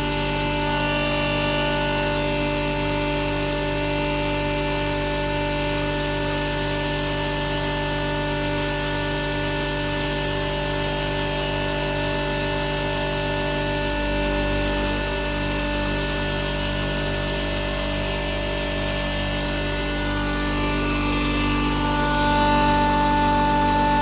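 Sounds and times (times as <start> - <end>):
flour mill humming and whining: 0.0 - 24.0.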